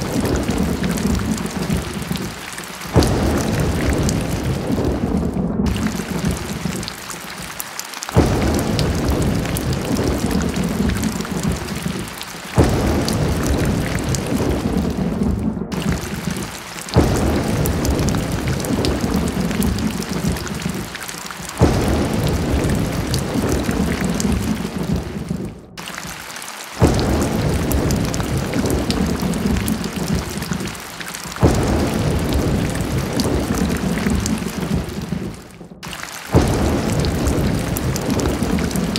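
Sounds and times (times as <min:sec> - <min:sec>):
deep thunder rumble: 0:00.0 - 0:06.9, 0:08.2 - 0:25.8, 0:26.8 - 0:38.9
rain hissing: 0:00.0 - 0:38.9.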